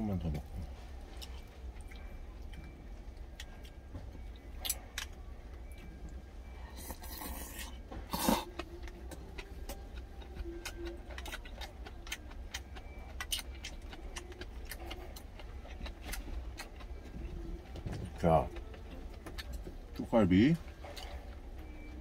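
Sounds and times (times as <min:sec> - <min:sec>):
low hum: 0:00.0 - 0:22.0
chewing with light clicks: 0:01.1 - 0:06.2, 0:08.4 - 0:22.0.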